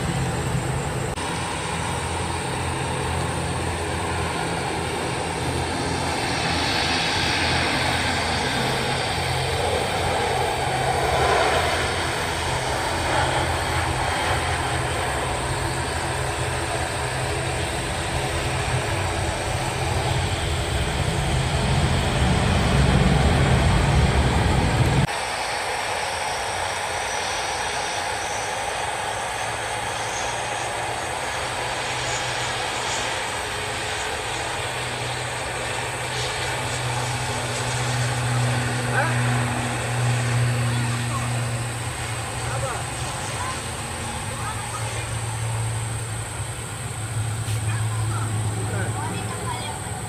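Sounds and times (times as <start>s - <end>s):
airliner engines rumbling: 0.0s - 50.0s.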